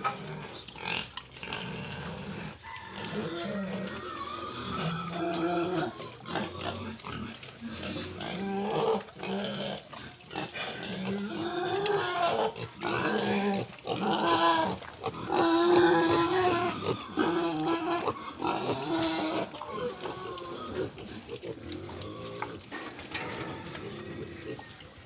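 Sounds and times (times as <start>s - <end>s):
piglets grunting and squealing: 0.0s - 25.0s.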